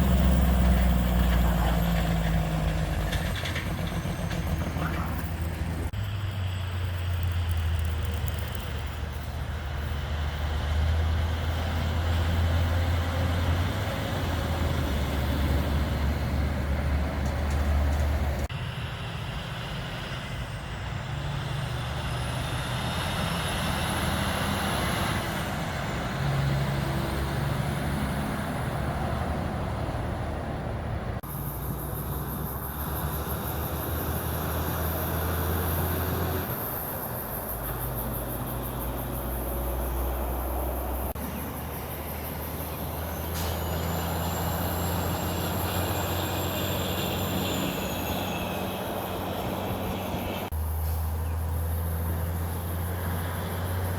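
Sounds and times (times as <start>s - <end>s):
heavy truck diesel engines: 0.0s - 53.9s.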